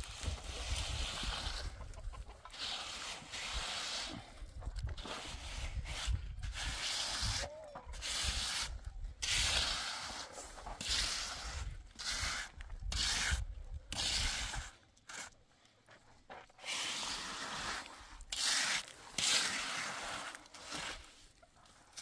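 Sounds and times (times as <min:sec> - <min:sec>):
rough rubbing strokes: 0:00.1 - 0:15.4, 0:16.0 - 0:21.4.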